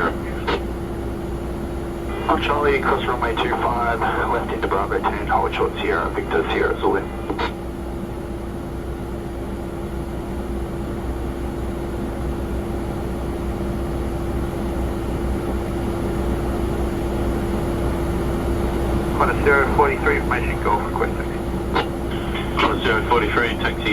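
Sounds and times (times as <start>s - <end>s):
jet airliner rumble: 0.0s - 23.9s.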